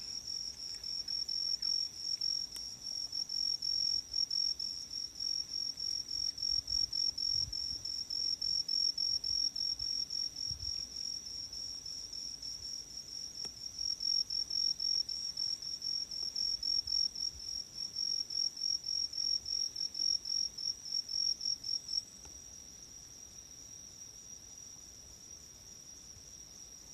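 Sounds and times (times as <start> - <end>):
continuous insect trill: 0.0 - 26.9.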